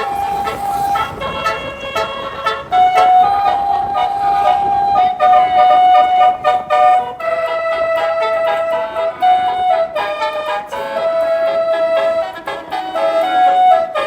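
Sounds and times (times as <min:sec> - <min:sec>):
bus horn playing a tune: 0:00.0 - 0:14.0.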